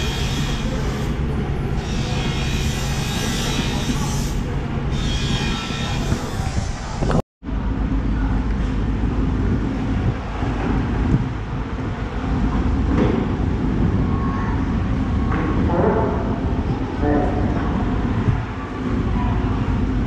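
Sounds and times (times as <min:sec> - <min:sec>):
crowd hubbub: 0:00.0 - 0:20.0
low rumble of engines and traffic: 0:00.0 - 0:20.0.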